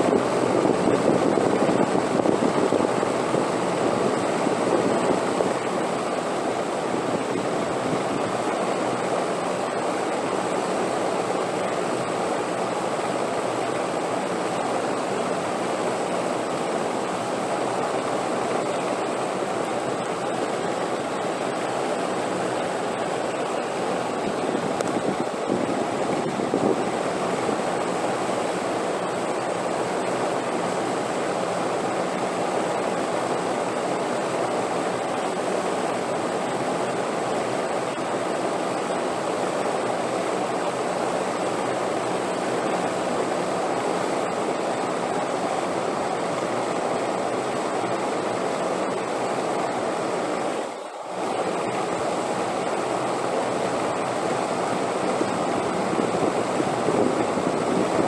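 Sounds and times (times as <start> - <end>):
steady rushing wind: 0.0 - 58.0.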